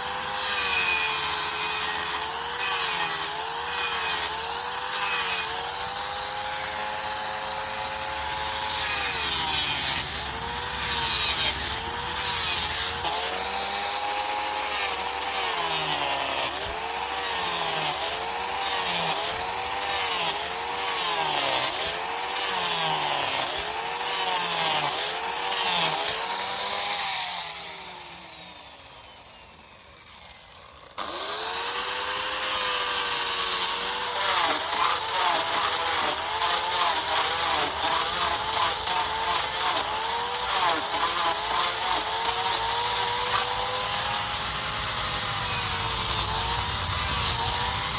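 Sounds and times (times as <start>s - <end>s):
angle grinder cutting wood: 0.0s - 47.9s
grinder spinning down whine: 0.0s - 47.9s.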